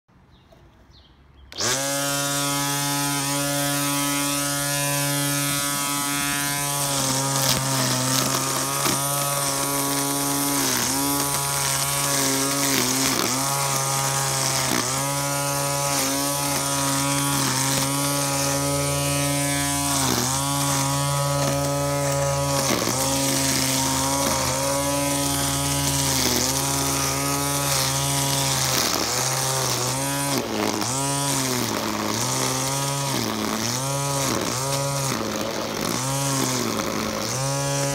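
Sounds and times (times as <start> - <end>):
string trimmer motor whine: 1.5 - 37.9
trimmer line cutting grass: 1.5 - 37.9.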